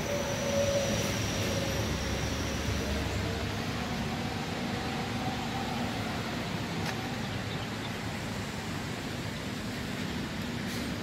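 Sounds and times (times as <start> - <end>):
bus diesel engine rumbling: 0.0 - 11.0.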